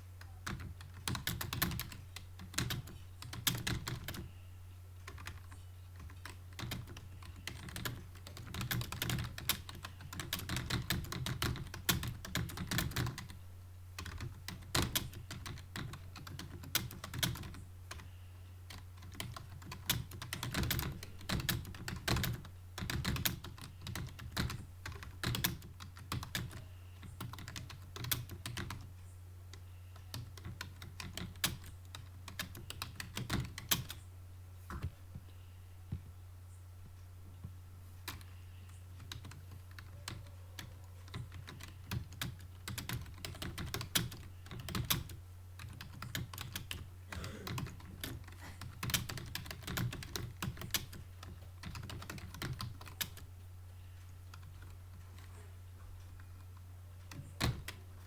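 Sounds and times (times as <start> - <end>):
steady low hum: 0.0 - 58.0
fast keyboard typing: 0.2 - 4.3, 5.0 - 13.4, 14.0 - 18.1, 18.7 - 28.9, 30.0 - 34.0, 38.0 - 38.3, 39.0 - 53.3, 54.3 - 55.3, 56.1 - 58.0.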